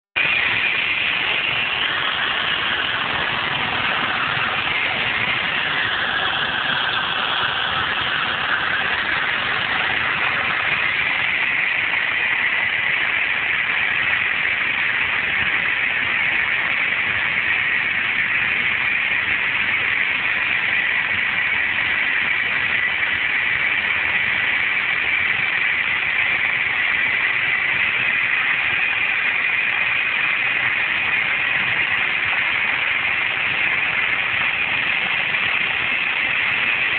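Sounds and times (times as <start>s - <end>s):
aircraft engine and propeller drone: 0.2s - 36.9s.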